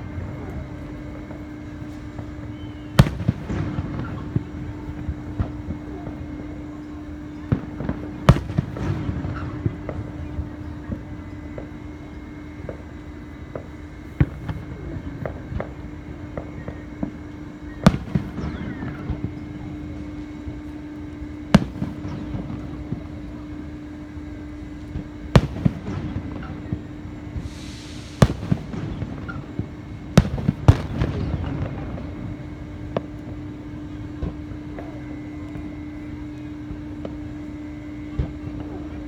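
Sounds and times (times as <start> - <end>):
fireworks bangs: 0.0 - 11.8, 12.5 - 35.7
steady hum: 0.0 - 39.0.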